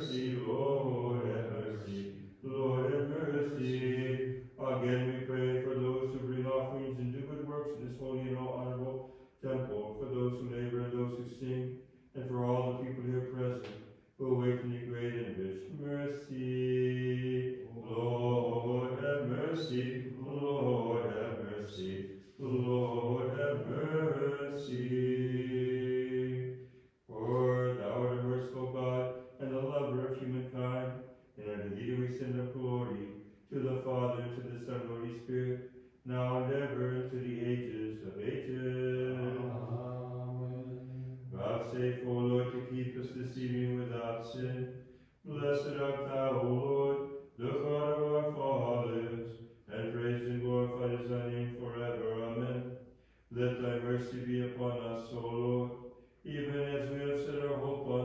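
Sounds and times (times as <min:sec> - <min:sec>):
man chanting: 0:00.0 - 0:52.7, 0:53.3 - 0:58.0.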